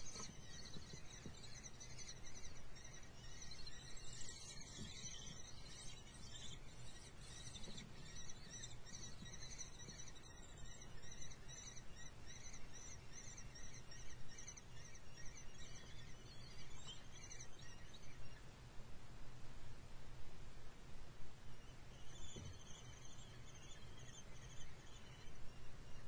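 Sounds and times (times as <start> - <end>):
bird nestlings begging chirps: 0.0 - 18.4, 21.9 - 26.0
low hum and hiss: 0.0 - 26.0.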